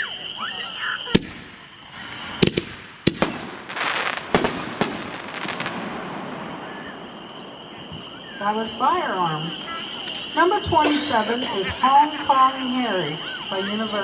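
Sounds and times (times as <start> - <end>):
firework bangs: 0.0 - 13.9
firework crackling: 0.0 - 14.0.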